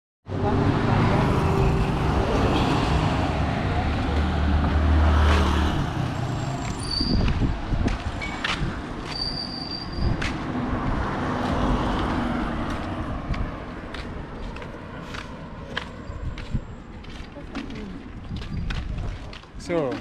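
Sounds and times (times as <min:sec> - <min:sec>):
street noise: 0:00.2 - 0:20.0.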